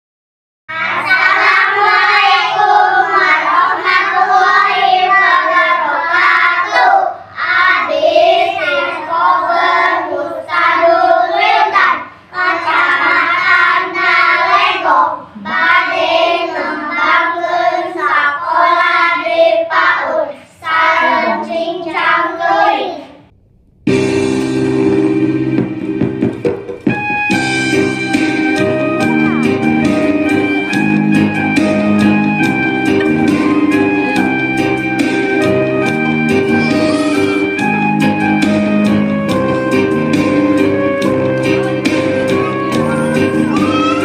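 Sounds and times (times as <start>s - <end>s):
children singing together: 0.7s - 23.3s, 28.6s - 37.8s, 40.1s - 44.0s.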